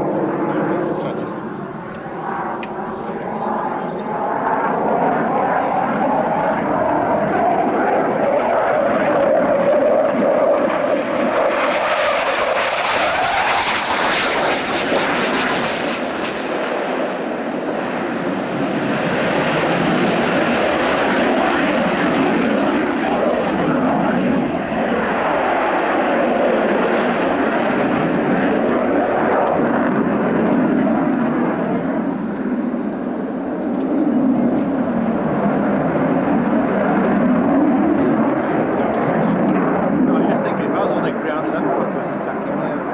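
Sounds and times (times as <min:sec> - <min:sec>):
aircraft engine roar: 0:00.0 - 0:42.9.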